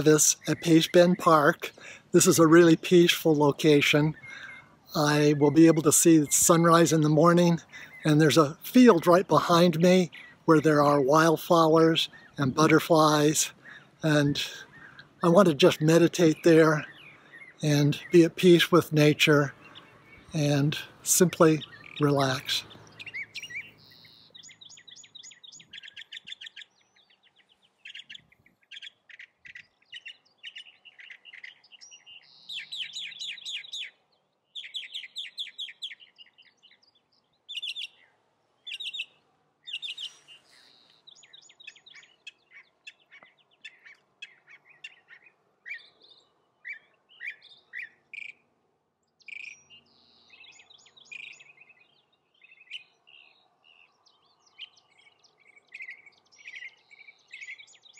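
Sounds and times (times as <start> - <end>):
songbirds trilling: 0.0 - 57.9.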